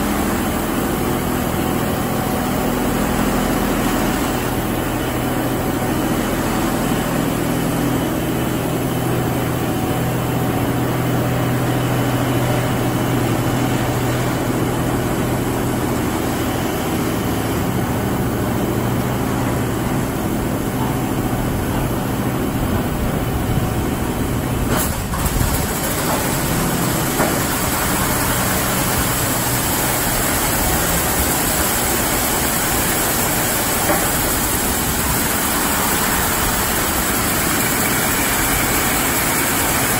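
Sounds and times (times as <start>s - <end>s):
car wash machine running: 0.0s - 39.9s.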